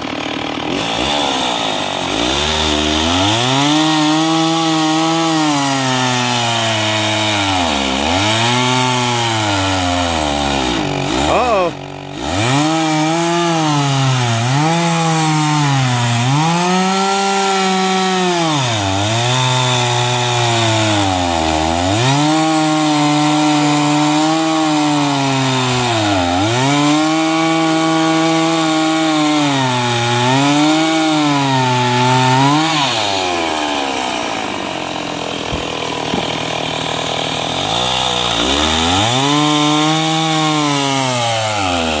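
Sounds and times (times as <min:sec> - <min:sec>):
chainsaw cutting through log: 0:00.0 - 0:42.0.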